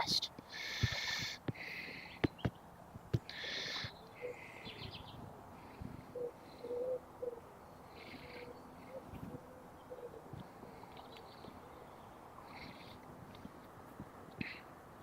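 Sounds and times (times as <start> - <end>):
birds high calls: 0.5 - 13.5.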